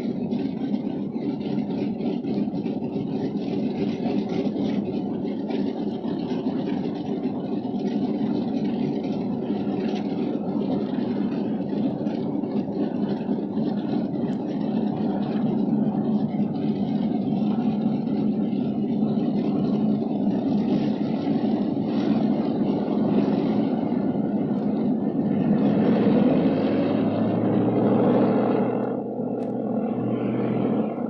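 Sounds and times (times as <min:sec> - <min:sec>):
propeller plane engines idling: 0:00.0 - 0:31.0.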